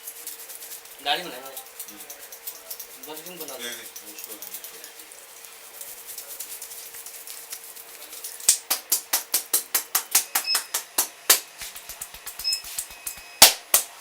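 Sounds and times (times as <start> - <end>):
scratching on scalp: 0.0 - 14.0.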